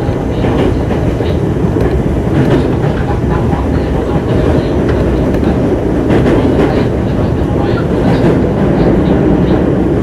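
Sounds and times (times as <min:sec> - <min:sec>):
rail joint clicks: 0:00.0 - 0:09.7
train wheels rumbling on rail: 0:00.0 - 0:10.0.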